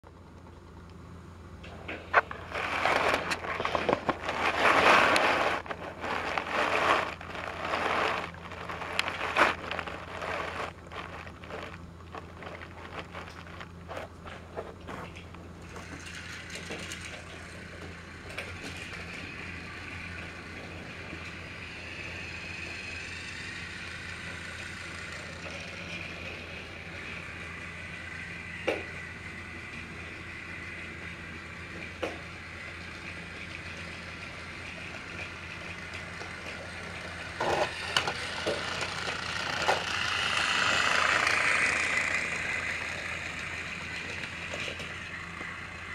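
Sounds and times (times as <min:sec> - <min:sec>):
crackling and scraping: 0:01.6 - 0:45.9
toy train motor whirring: 0:01.6 - 0:45.9.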